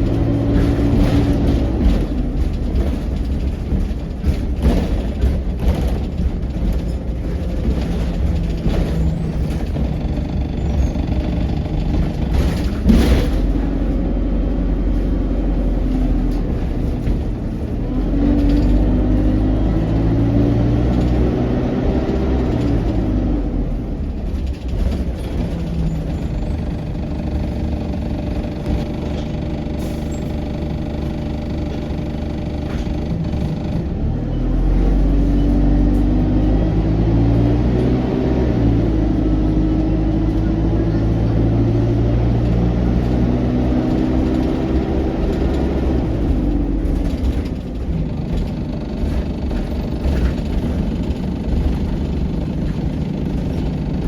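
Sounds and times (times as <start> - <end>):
bus body rattling: 0.0 - 54.0
bus diesel engine running: 0.0 - 54.0.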